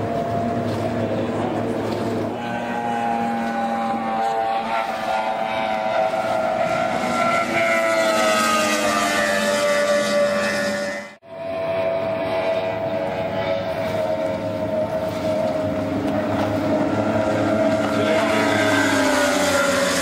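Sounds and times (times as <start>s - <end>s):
outboard engines racing: 0.0s - 20.0s.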